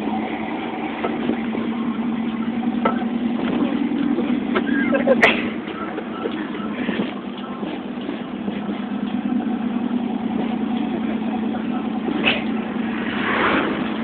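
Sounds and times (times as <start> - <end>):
van engine and road noise: 0.0 - 14.0.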